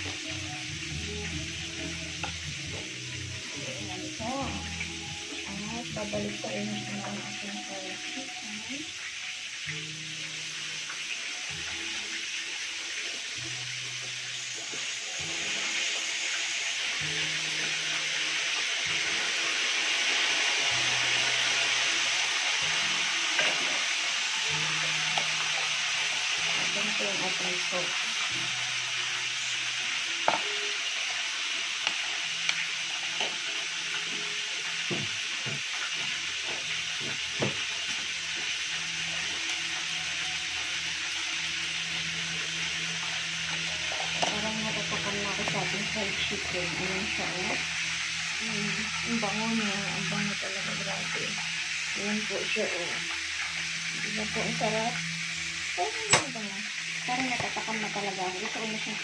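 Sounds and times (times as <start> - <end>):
low music: 0.0 - 35.4, 36.0 - 59.0
chicken frying in oil: 0.0 - 59.0.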